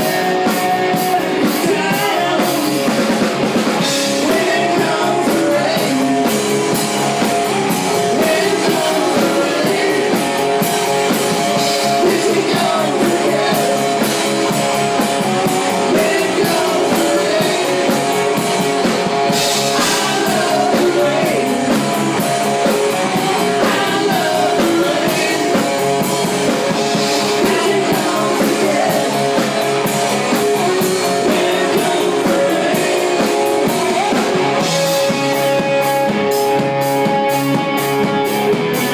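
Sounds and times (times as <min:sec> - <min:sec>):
man singing: 0:00.0 - 0:06.8, 0:07.6 - 0:10.7, 0:11.5 - 0:18.5, 0:19.3 - 0:22.2, 0:23.0 - 0:35.4
bass guitar: 0:00.0 - 0:38.9
drum kit: 0:00.0 - 0:38.9
electric guitar: 0:00.0 - 0:38.9.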